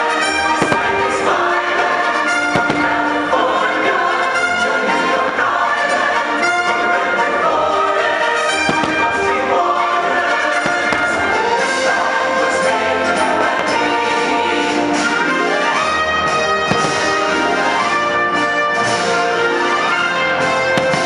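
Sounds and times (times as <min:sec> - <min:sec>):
firework bangs: 0:00.0 - 0:06.8, 0:08.5 - 0:21.0
orchestra brass and choir music: 0:00.0 - 0:21.0.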